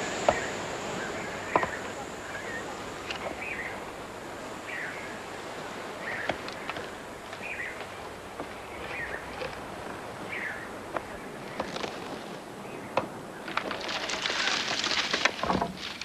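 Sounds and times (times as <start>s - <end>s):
outdoor ambience: 0.0s - 16.0s.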